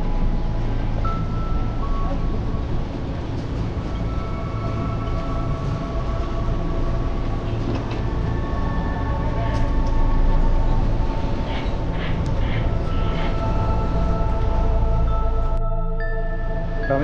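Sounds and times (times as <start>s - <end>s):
faint steady tones: 0.0s - 17.0s.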